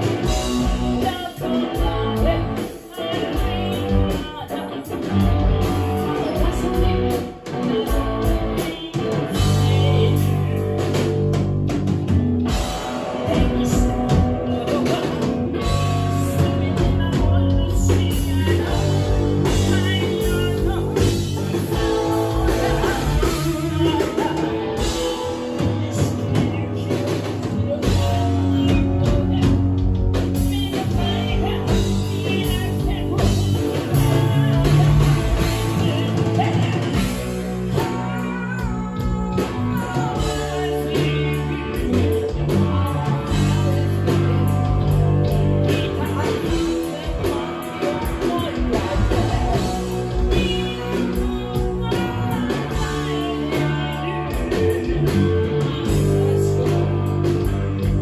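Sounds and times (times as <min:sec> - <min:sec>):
woman singing: 0:00.0 - 0:11.4, 0:12.5 - 0:58.0
drum kit: 0:00.0 - 0:58.0
electric guitar: 0:00.0 - 0:58.0.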